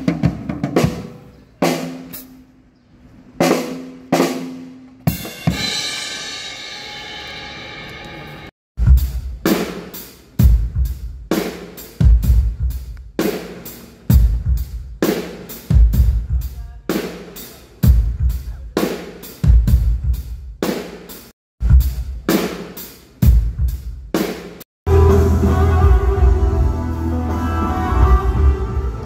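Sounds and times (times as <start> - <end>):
drum kit playing: 0.0 - 2.5, 3.4 - 29.0.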